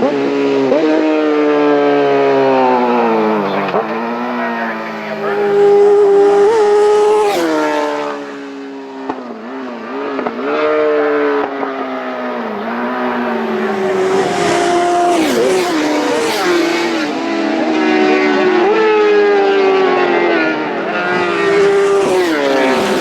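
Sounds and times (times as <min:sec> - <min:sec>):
racing motorcycles passing: 0:00.0 - 0:23.0.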